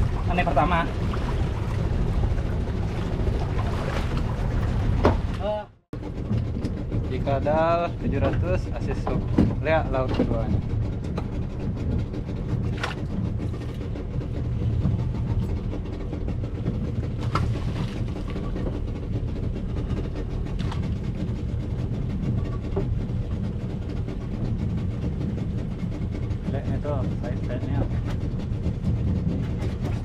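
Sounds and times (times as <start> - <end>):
boat engine humming: 0.0 - 30.0.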